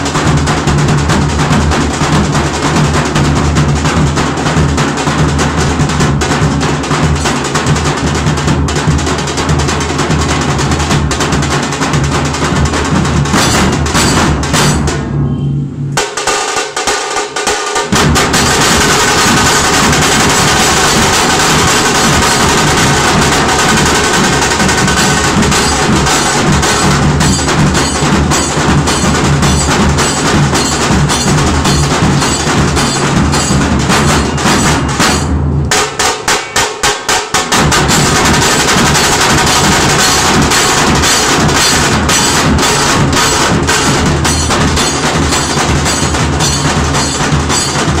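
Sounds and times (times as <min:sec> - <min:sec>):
rapid snare drum strokes: 0:00.0 - 0:15.1, 0:16.0 - 0:48.0
dhol drums beating: 0:00.0 - 0:48.0.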